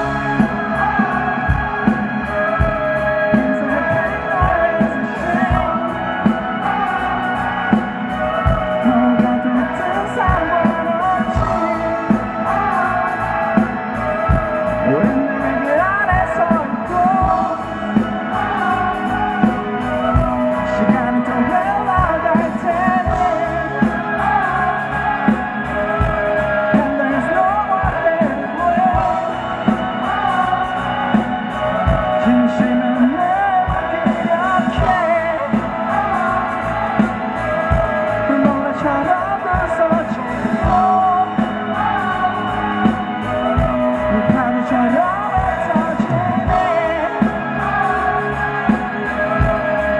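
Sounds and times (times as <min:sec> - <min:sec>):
bass: 0:00.0 - 0:49.9
drums keeping a steady beat: 0:00.0 - 0:49.9
electric guitars: 0:00.0 - 0:49.9
person singing: 0:00.0 - 0:49.9.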